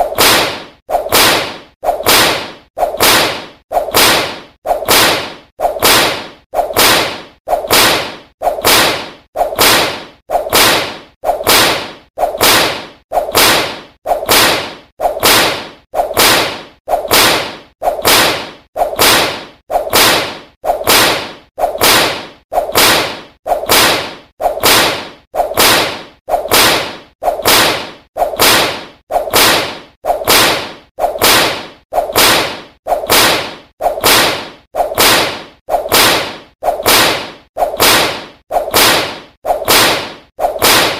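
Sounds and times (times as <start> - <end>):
whip cracking: 0.0 - 40.9.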